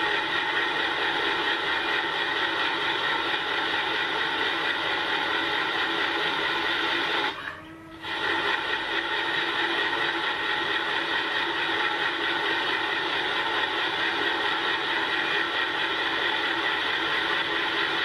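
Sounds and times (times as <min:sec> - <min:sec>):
lathe spindle whine: 0:00.0 - 0:18.0.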